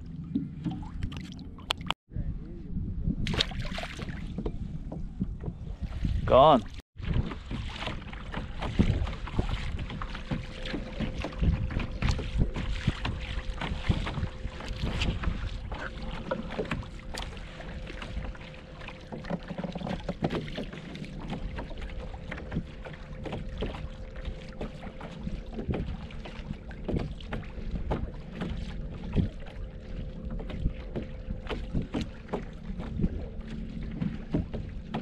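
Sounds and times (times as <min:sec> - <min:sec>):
water lapping against kayak hull: 0:00.0 - 0:02.0, 0:03.2 - 0:35.0
wind on microphone: 0:02.1 - 0:35.0.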